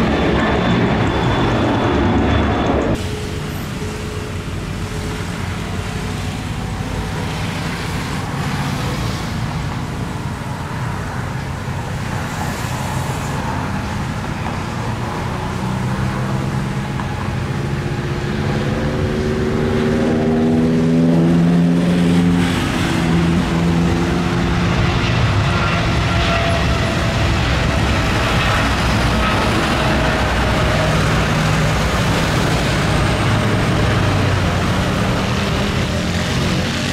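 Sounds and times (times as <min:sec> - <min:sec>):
jet engine roar: 0:00.0 - 0:36.9
jet engine whine: 0:00.0 - 0:36.9.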